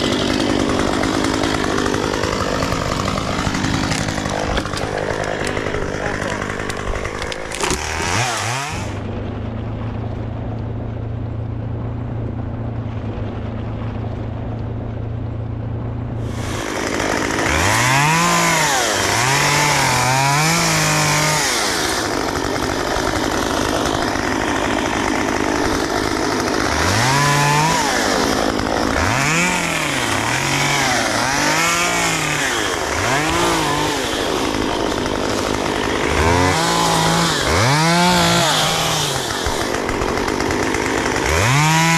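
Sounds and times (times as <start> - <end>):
chainsaw revving and idling: 0.0 - 9.6, 16.2 - 41.9.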